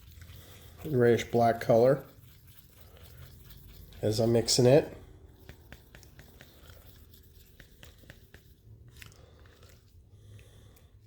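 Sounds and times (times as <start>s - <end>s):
epoxy being stirred: 0.0s - 11.0s.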